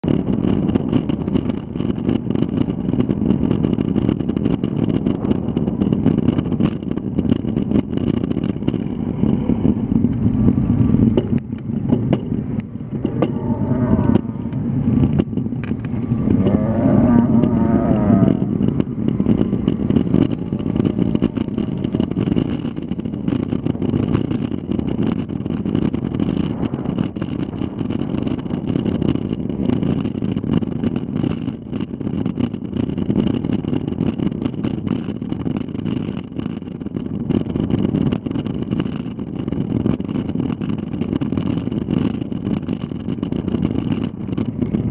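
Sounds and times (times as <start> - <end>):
road noise: 0.0 - 44.9
vehicle engine running: 0.0 - 44.9.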